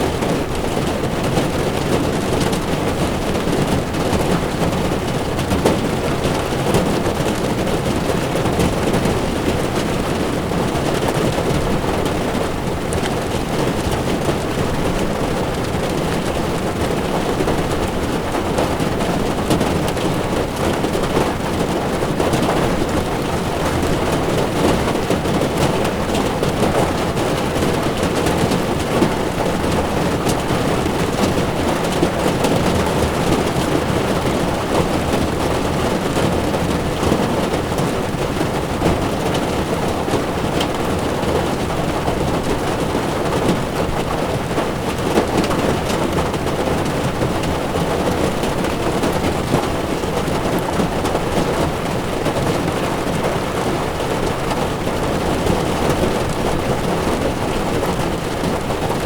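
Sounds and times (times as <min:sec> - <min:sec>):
heavy rain on car windshield: 0:00.0 - 0:59.0.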